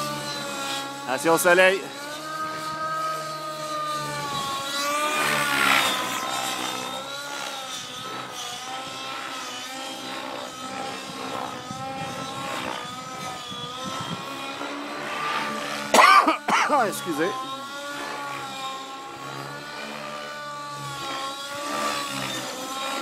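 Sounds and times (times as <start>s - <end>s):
model helicopter rotors whining: 0.0s - 23.0s.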